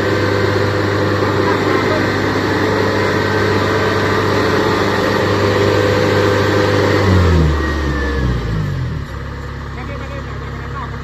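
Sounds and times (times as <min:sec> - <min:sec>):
diesel engine running at high revs: 0:00.0 - 0:11.0.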